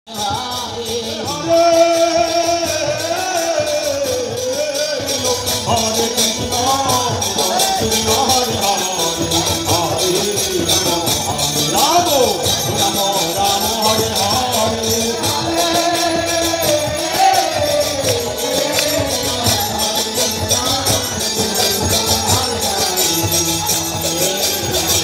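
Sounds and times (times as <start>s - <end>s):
group singing devotional chant: 0.1s - 25.0s
hand drums: 0.1s - 25.0s.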